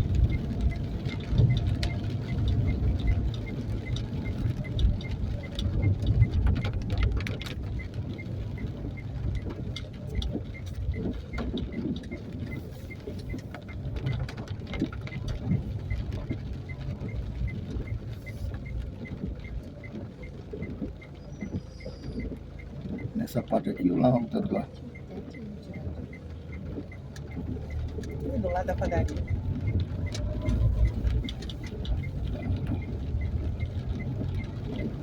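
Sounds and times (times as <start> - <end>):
crackling patter: 0.0 - 35.0
low street rumble: 0.0 - 35.0.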